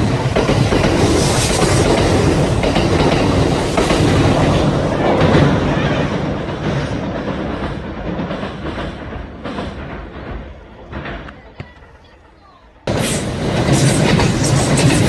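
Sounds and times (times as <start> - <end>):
electric train rolling: 0.0 - 15.0
wheels clacking over rail joints: 0.0 - 15.0.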